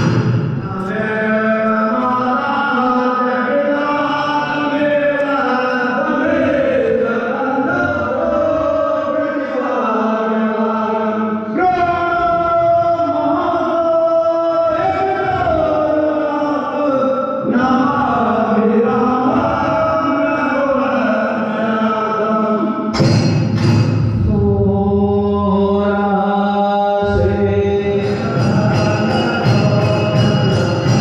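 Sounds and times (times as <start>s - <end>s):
group chanting a hymn: 0.0s - 23.7s, 24.3s - 31.0s.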